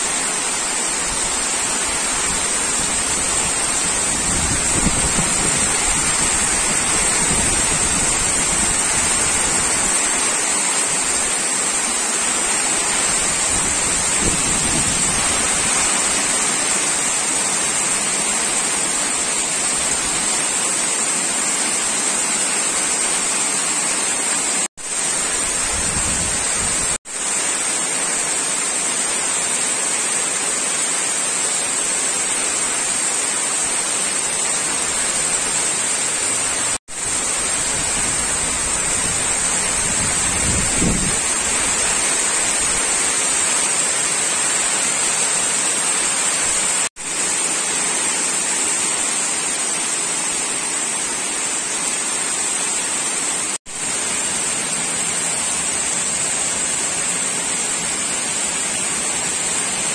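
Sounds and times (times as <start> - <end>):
heavy rain splashing on puddles: 0.0 - 59.9.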